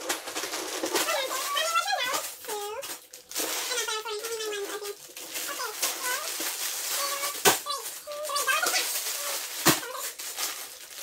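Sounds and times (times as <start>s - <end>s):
plastic bags crinkling and rattling: 0.0s - 11.0s.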